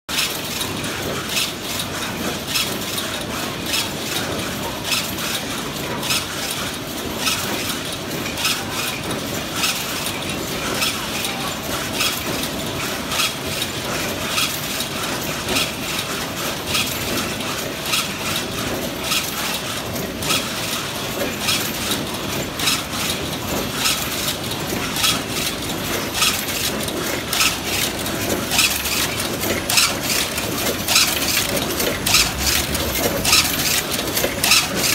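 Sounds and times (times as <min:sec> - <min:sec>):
steady mechanical clatter: 0:00.1 - 0:34.9
weaving loom clacks: 0:00.1 - 0:34.9.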